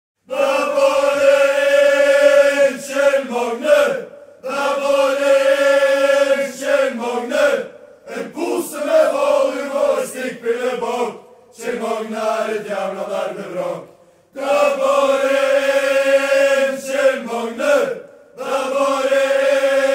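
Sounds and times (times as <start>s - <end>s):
crowd singing a chant: 0.2s - 19.9s.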